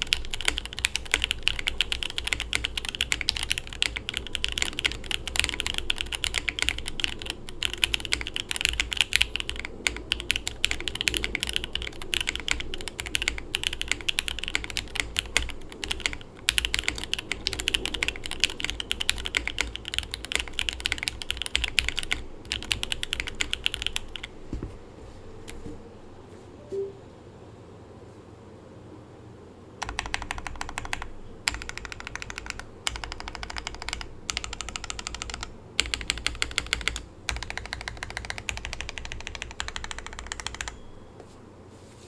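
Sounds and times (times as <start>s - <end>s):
mechanical keyboard typing: 0.0s - 24.4s, 29.8s - 40.9s.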